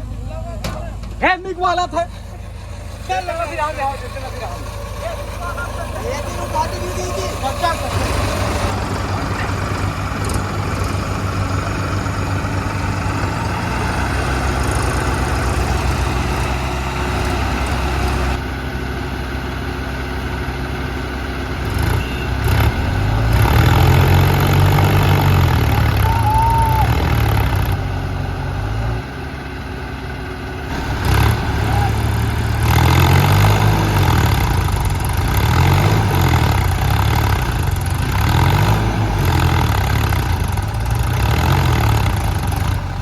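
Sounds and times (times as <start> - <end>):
diesel engine running and revving: 0.0 - 43.0.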